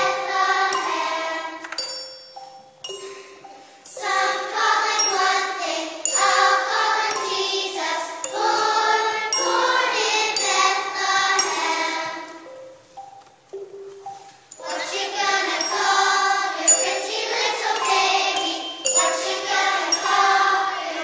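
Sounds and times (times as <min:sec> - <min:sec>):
children's choir singing: 0:00.0 - 0:02.1, 0:02.8 - 0:13.1, 0:14.1 - 0:21.0
bright tinkling instrumental accompaniment: 0:00.0 - 0:21.0.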